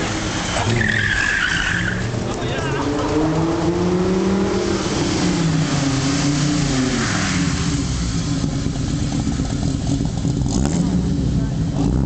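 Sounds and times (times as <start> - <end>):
car engine running hard: 0.0 - 12.0.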